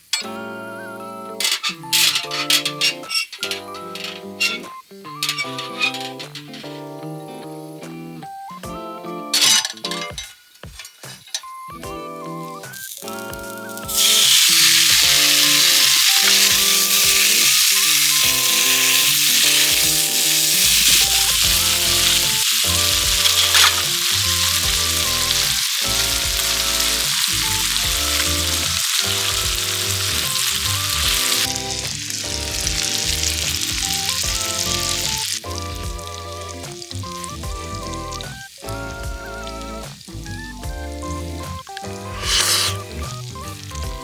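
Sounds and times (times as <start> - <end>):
background music with beat: 0.0 - 44.0
food sizzling and frying: 1.2 - 44.0.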